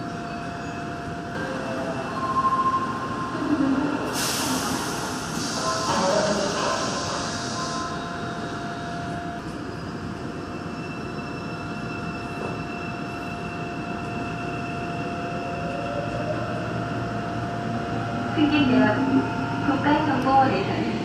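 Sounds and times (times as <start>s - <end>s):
subway train running rumble: 0.0s - 21.0s.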